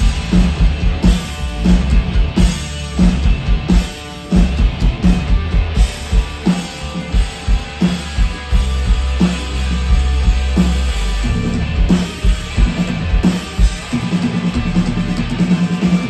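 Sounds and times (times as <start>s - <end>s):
bass guitar: 0.0s - 16.0s
distorted electric guitars: 0.0s - 16.0s
drum kit pounding a beat: 0.0s - 16.0s.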